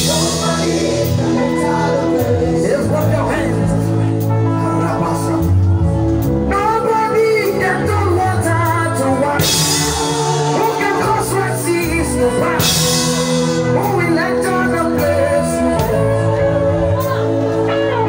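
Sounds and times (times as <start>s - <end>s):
live band with singing: 0.0s - 18.0s.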